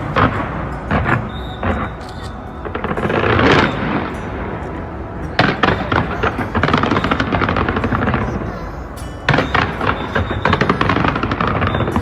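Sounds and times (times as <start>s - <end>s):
fireworks cracks and bangs: 0.0s - 12.0s
music playing: 0.0s - 12.0s.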